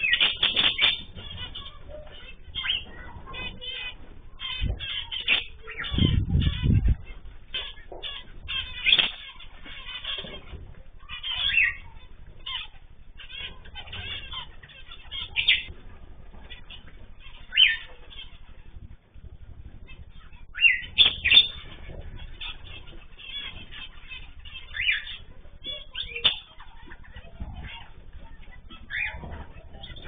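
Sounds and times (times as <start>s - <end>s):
loud falling bird calls: 0.0s - 30.0s
small birds chirping: 0.0s - 30.0s.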